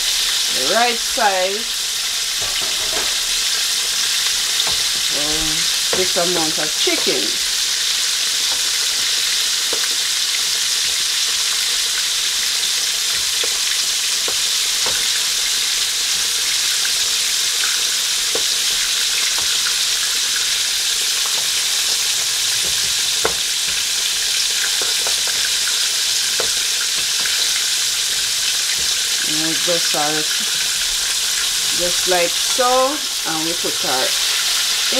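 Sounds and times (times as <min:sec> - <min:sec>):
chicken sizzling in hot oil: 0:00.0 - 0:34.9.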